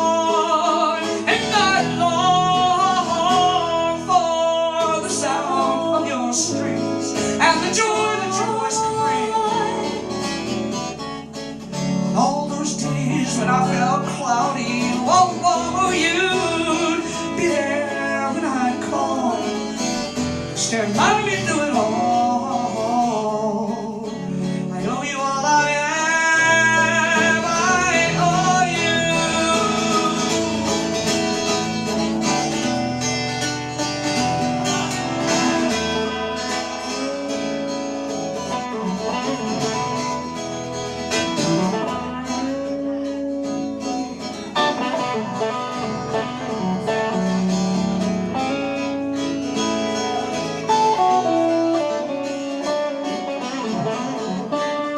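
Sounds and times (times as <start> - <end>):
acoustic guitars playing country: 0.0 - 54.9
gliding guitar lead line: 0.0 - 54.9.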